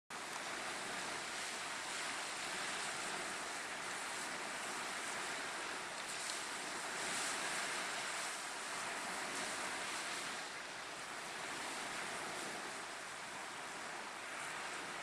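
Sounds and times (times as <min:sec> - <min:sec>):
waves washing up a sandy shore: 0:00.1 - 0:15.0
wind across microphone: 0:00.1 - 0:15.0.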